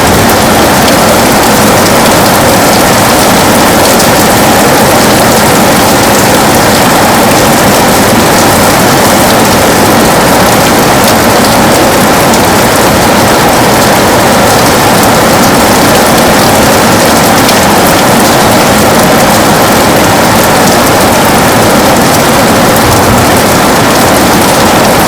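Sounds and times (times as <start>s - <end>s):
heavy rain on a window: 0.0s - 25.0s.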